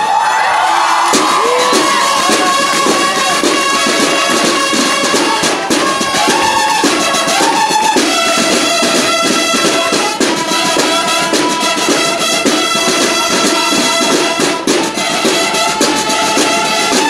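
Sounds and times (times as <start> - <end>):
marching band playing: 0.4 - 17.0.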